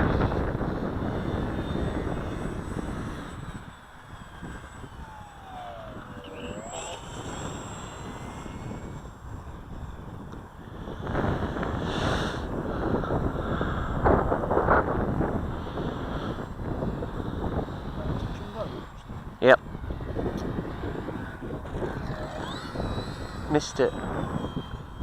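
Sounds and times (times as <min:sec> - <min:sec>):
model plane motor whine: 0:00.0 - 0:25.0
wind buffeting microphone: 0:00.0 - 0:25.0.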